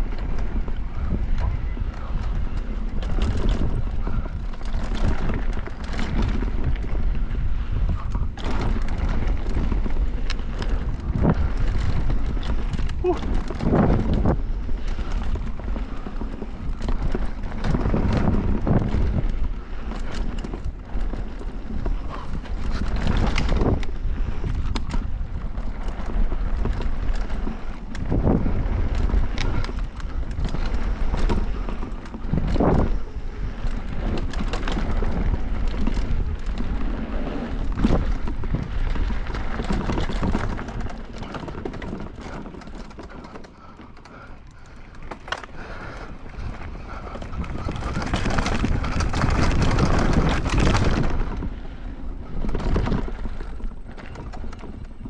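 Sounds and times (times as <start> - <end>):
bike frame and chain rattling: 0.0 - 55.0
bike tyres rumbling: 0.0 - 55.0
wind rushing over microphone: 0.0 - 55.0.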